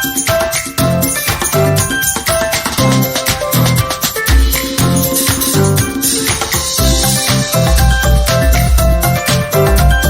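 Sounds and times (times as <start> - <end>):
background music with beat: 0.0 - 10.0
jingling percussion: 0.0 - 10.0.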